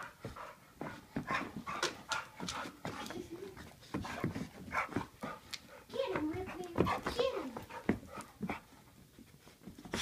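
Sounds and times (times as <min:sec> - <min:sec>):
dog panting: 0:00.0 - 0:10.0
dogs scuffling: 0:00.0 - 0:10.0
paws clicking on floor: 0:00.0 - 0:10.0.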